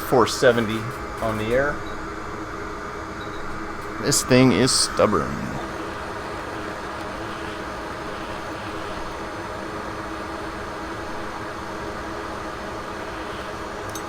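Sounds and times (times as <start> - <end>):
hot air blower hissing: 0.0 - 14.0.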